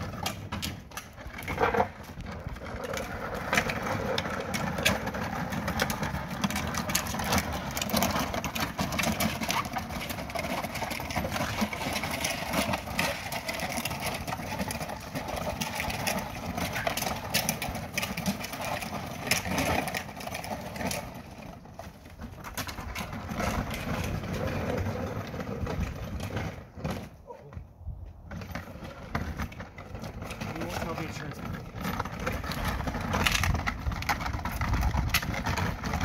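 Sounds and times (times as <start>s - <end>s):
cart wheels rolling and rattling: 0.0s - 36.0s.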